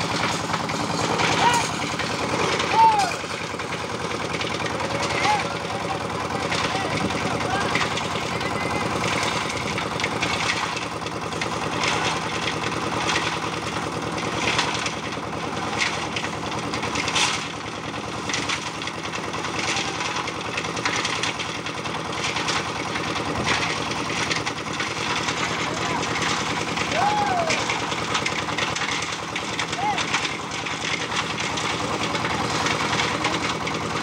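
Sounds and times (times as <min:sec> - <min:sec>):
concrete mixer engine running: 0:00.0 - 0:34.0.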